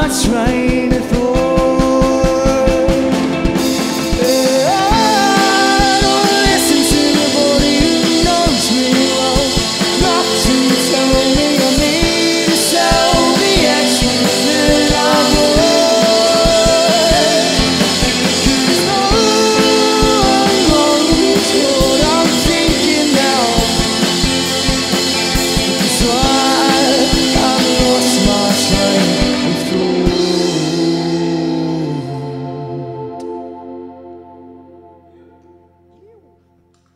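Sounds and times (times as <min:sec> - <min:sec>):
drum kit: 0:00.0 - 0:33.4
bass guitar: 0:00.0 - 0:36.9
electric guitars: 0:00.0 - 0:36.9.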